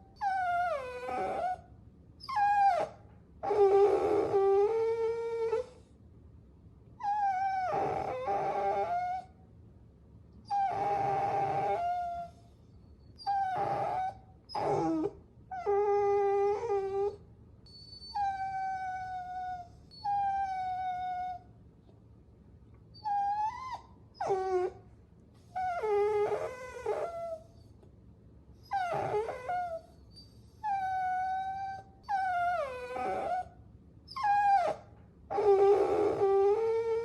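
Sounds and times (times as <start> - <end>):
puppy whining: 0.0 - 5.9, 7.0 - 9.4, 10.4 - 21.6, 22.9 - 27.9, 28.6 - 37.0.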